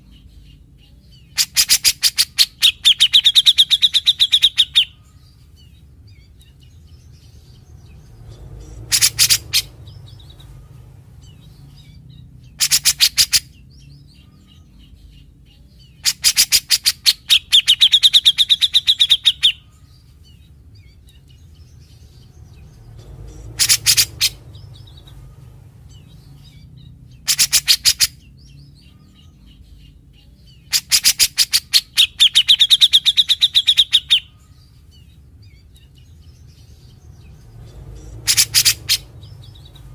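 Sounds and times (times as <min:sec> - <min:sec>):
bird singing harsh rattling notes: 0:00.0 - 0:39.9.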